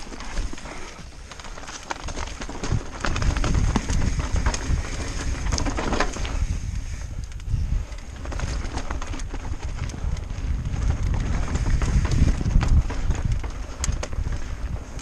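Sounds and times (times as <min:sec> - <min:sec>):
bike rattling: 0:00.0 - 0:15.0
bike tyres crunching over rocks: 0:00.0 - 0:15.0
wind rumble on microphone: 0:00.0 - 0:15.0.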